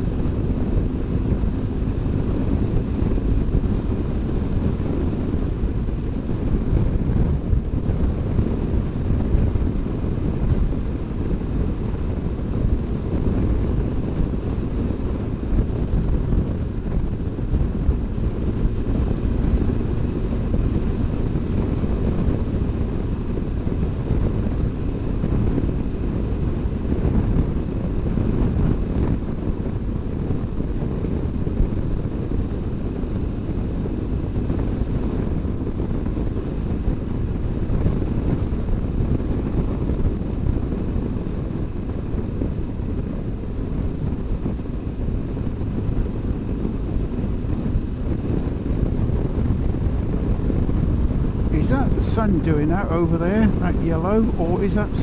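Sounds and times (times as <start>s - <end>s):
motorcycle engine running: 0.0s - 52.0s
wind rushing over microphone: 0.0s - 55.0s.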